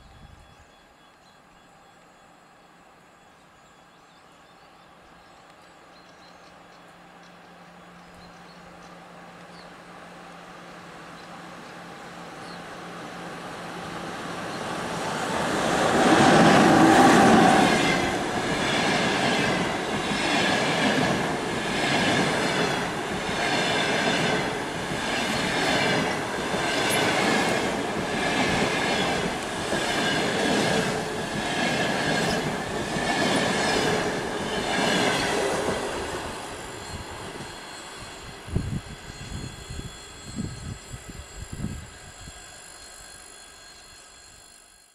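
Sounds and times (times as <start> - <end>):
electric locomotive passing: 0.0 - 44.9.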